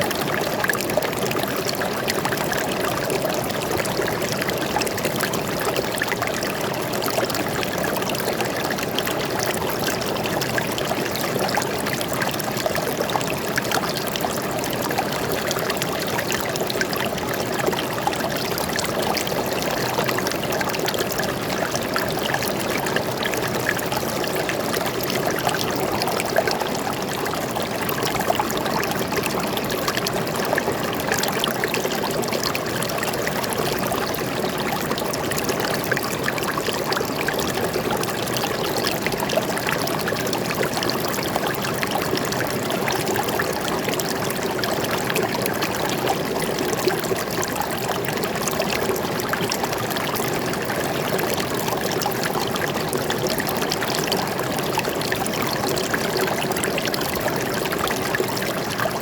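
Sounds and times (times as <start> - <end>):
stream flowing: 0.0 - 59.0
water trickling and splashing: 0.0 - 59.0.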